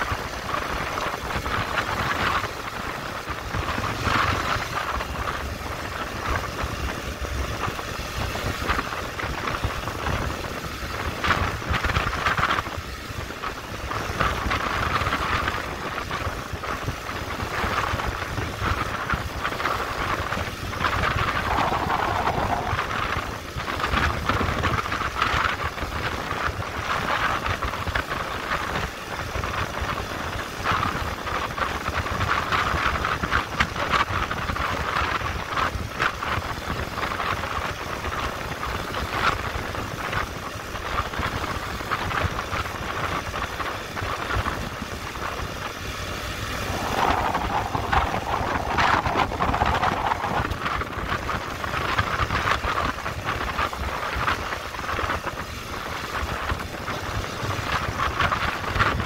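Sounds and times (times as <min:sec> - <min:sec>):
motorcycle engine and road noise: 0:00.0 - 0:59.0
wind buffeting microphone: 0:00.0 - 0:59.0.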